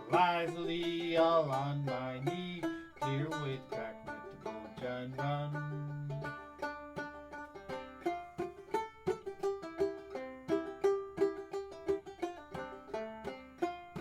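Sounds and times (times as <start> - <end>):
plucked string folk music: 0.0 - 14.0.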